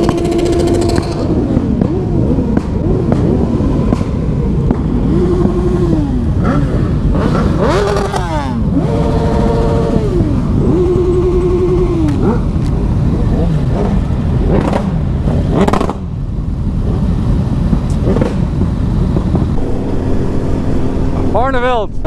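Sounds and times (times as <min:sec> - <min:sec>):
another engine sweeping up and down: 0:00.0 - 0:16.1, 0:19.2 - 0:22.0
motorcycle engine revving: 0:00.0 - 0:22.0
wind and road noise: 0:00.0 - 0:22.0.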